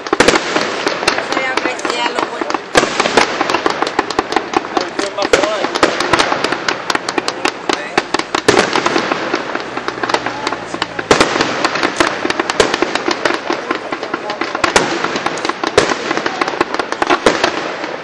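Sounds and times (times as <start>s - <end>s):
fireworks crackling: 0.0s - 18.0s
loud firework bangs: 0.0s - 18.0s.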